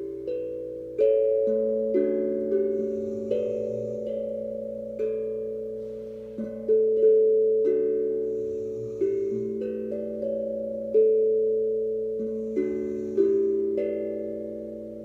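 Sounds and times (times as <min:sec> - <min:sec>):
steel tongue drum notes: 0:00.0 - 0:15.0.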